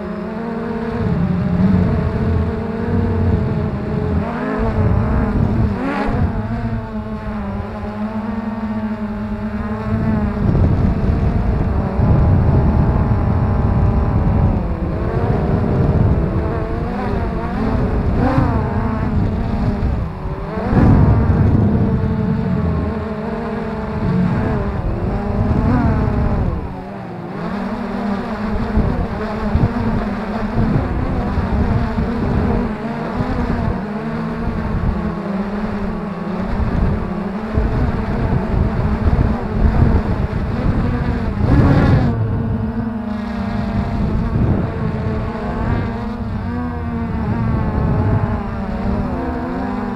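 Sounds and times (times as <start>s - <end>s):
quadcopter motors whining: 0.0s - 49.9s
wind buffeting microphone: 0.0s - 49.9s.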